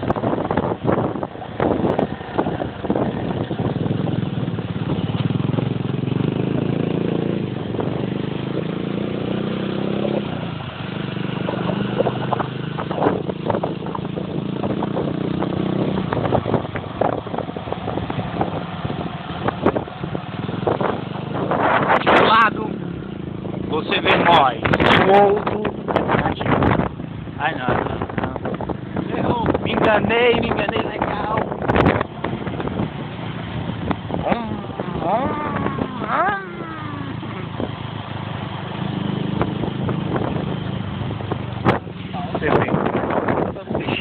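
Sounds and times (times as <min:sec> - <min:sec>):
road noise: 0:00.0 - 0:44.0
vehicle engine running: 0:00.0 - 0:44.0.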